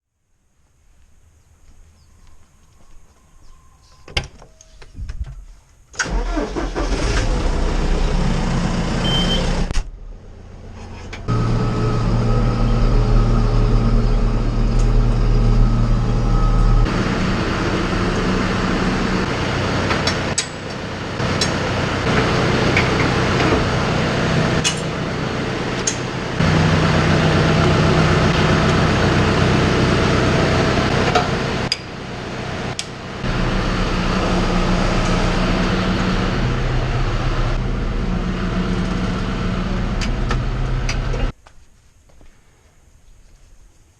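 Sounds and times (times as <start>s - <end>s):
tractor diesel engine running: 6.0s - 41.3s.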